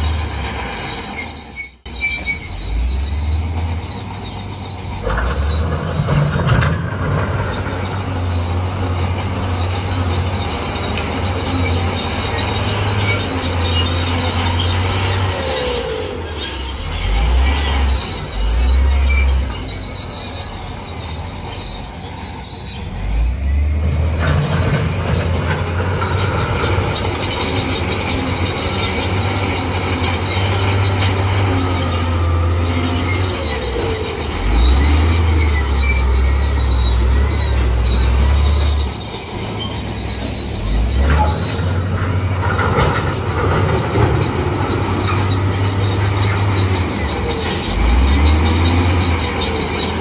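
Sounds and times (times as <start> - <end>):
diesel engine under load: 0.0 - 50.0
high-pitched metallic squealing: 0.0 - 50.0.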